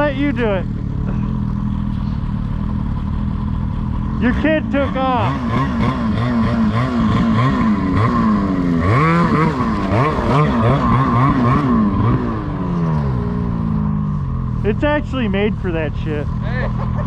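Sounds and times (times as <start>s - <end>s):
small engines revving: 0.0s - 17.0s.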